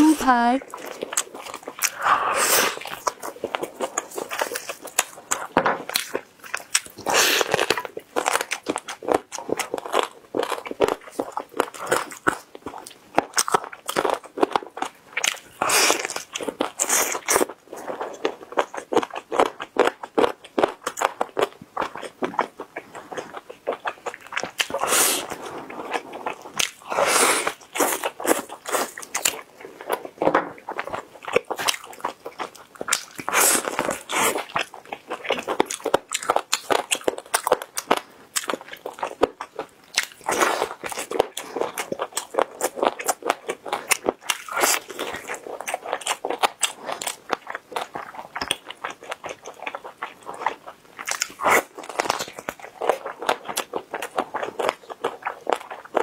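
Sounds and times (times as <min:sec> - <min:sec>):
biting and chewing meat: 0:00.3 - 0:56.0.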